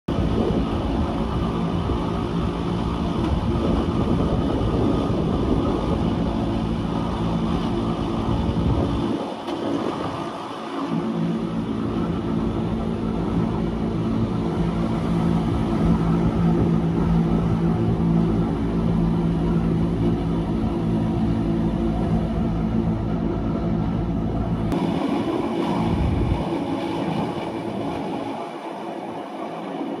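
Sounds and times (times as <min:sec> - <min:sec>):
motor hum: 0:00.1 - 0:30.0
train rumble: 0:00.1 - 0:30.0.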